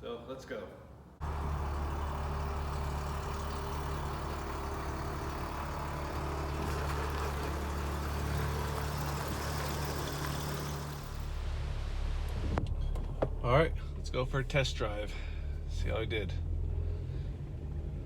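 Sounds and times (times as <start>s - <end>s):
car engine idling: 1.2s - 18.0s.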